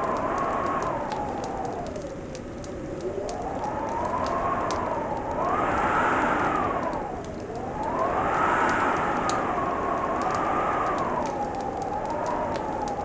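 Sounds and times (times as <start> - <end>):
wind howling: 0.0 - 13.0.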